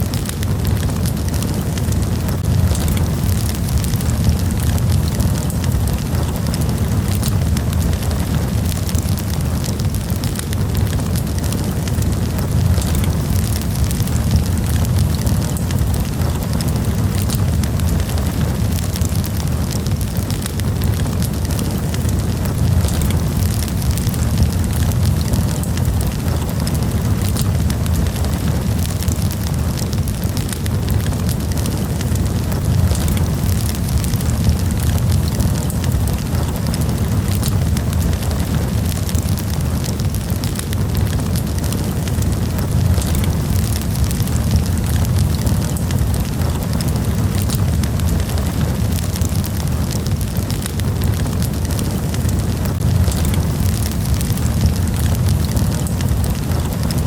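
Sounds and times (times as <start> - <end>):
campfire flames rumbling: 0.0 - 57.0
wood crackling and popping: 0.0 - 57.0.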